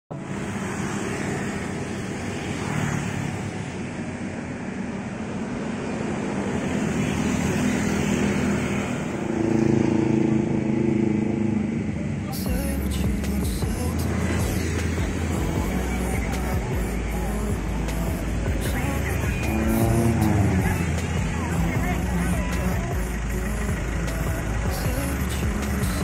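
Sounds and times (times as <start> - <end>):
motorcycle engines passing: 0.1 - 26.0
street traffic: 0.1 - 26.0.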